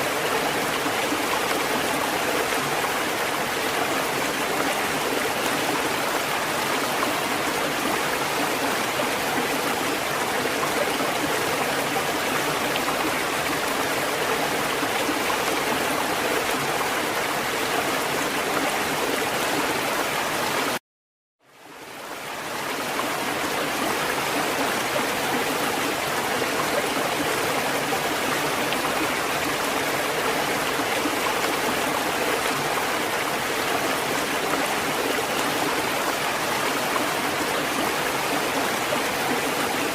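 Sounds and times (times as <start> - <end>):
rushing water: 0.0 - 20.8, 21.4 - 39.9.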